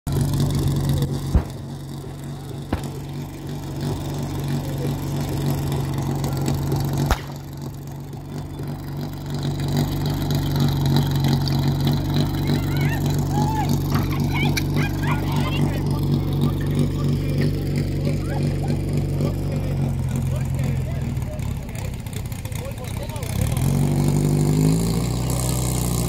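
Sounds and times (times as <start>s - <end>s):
pump petrol engine running: 0.1s - 26.0s.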